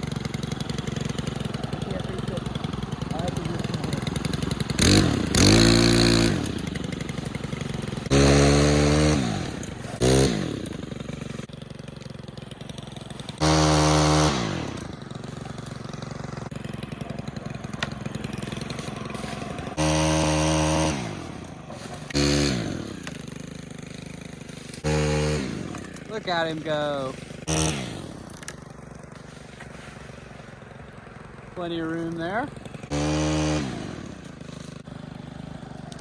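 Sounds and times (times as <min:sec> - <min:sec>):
small engine revving: 0:00.0 - 0:36.0.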